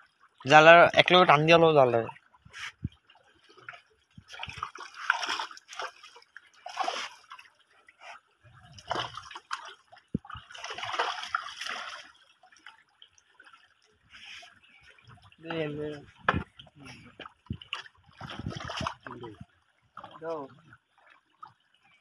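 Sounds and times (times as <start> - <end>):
water sloshing and splashing: 0.0 - 22.0.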